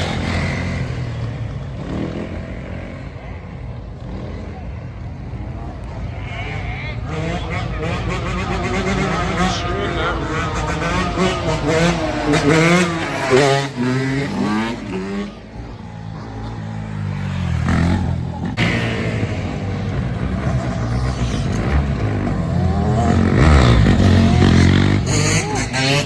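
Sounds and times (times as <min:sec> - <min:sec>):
motorbikes revving past: 0:00.0 - 0:26.0.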